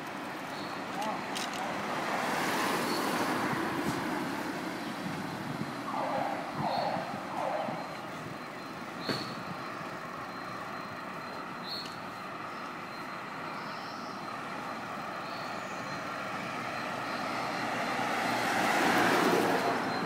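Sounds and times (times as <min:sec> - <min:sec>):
cars passing on asphalt: 0:00.0 - 0:20.0.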